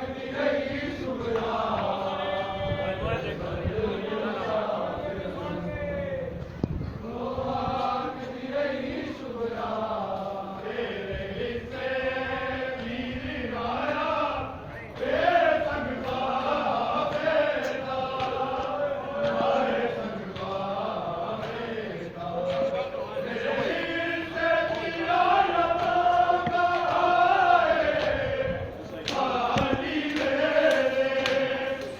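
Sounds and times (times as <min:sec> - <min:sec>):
men chanting a lament: 0:00.0 - 0:31.9.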